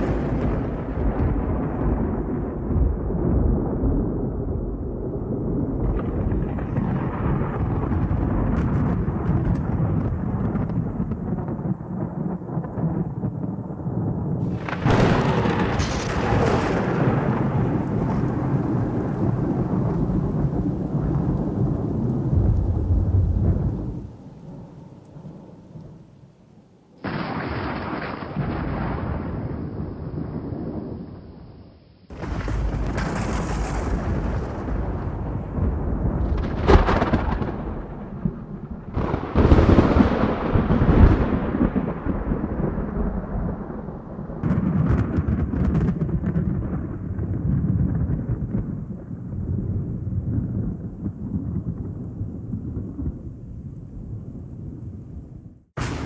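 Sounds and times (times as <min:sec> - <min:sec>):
thunder rumbling: 0:00.0 - 0:31.1, 0:32.1 - 0:56.0.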